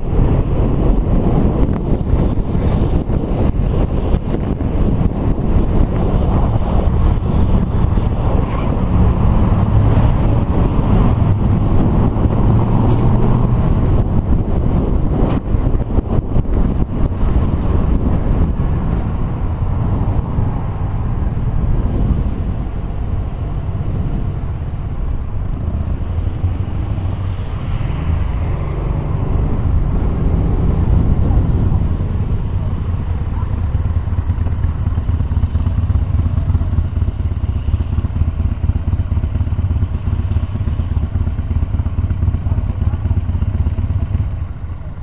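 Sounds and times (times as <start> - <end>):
motorcycle engine: 0.0 - 45.0
wind rumble on microphone: 0.0 - 45.0.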